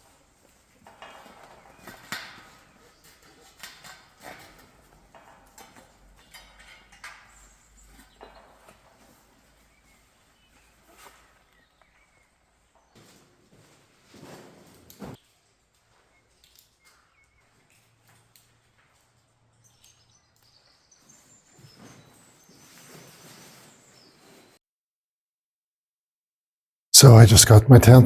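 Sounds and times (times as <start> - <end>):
scuffs and clicks on rocky floor: 0.0 - 24.6.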